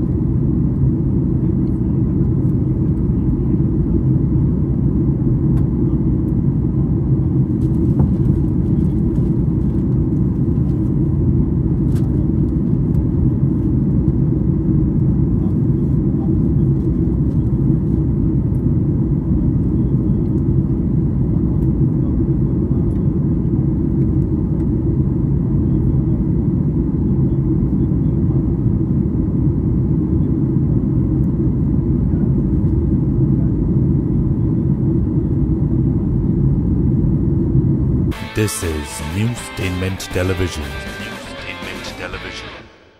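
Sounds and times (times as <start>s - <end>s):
jet airliner cabin noise: 0.0s - 42.3s.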